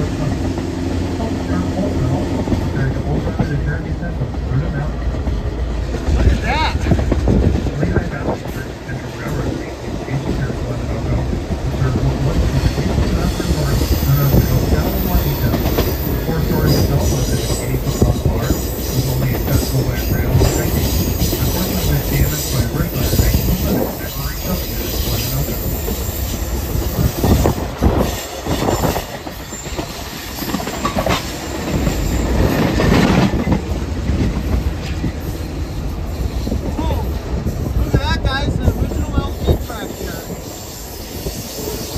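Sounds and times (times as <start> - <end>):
train cars rumbling on rails: 0.0 - 41.9.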